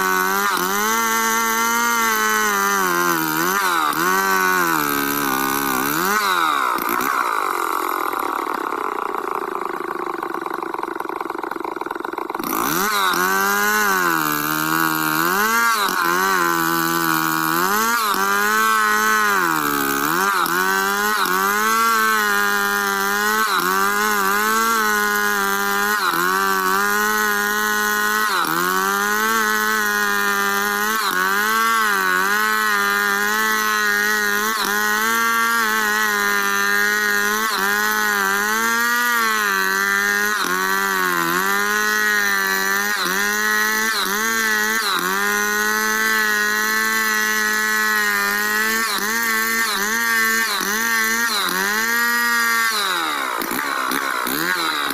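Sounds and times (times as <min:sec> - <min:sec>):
chainsaw cutting log: 0:00.0 - 0:54.9.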